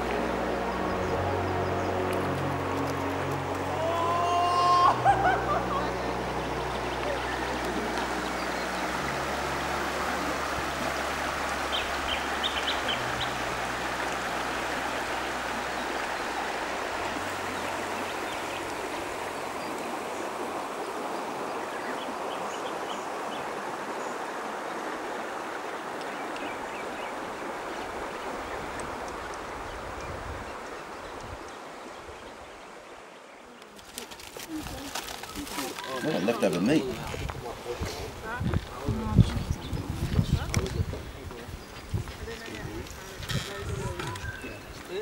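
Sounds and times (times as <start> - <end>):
river water rippling over stones: 0.0 - 45.0.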